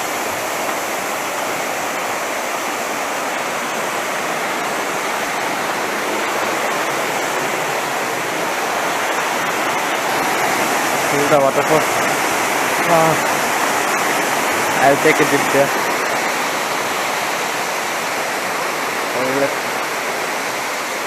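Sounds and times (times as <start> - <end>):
waterfall crashing: 0.0 - 21.0.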